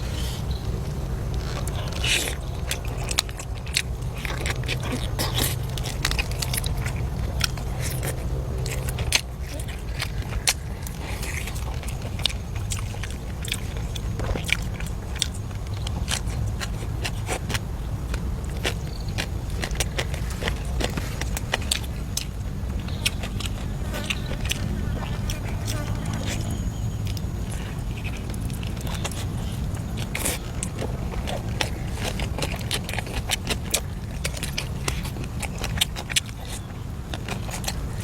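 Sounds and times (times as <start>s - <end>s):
crunchy chewing: 0.0s - 38.0s
low hum: 0.0s - 38.0s.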